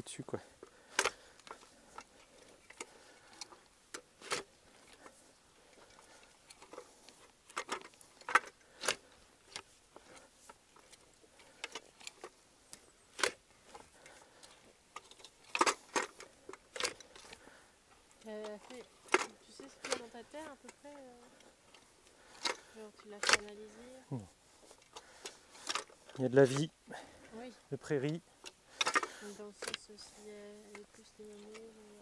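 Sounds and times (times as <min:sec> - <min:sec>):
tines crackling through dry grass: 0:00.0 - 0:32.0.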